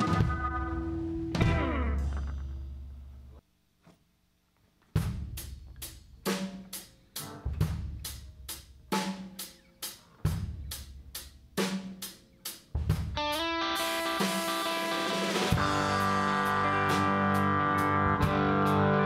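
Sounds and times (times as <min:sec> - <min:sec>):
drum kit playing a steady beat: 0:00.0 - 0:02.9, 0:04.9 - 0:19.0.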